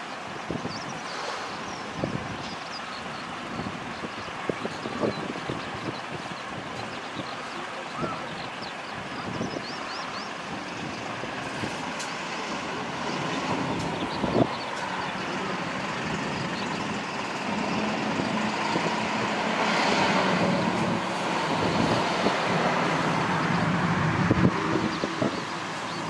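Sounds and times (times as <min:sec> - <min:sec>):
helicopter engines and rotor: 0:00.4 - 0:26.0.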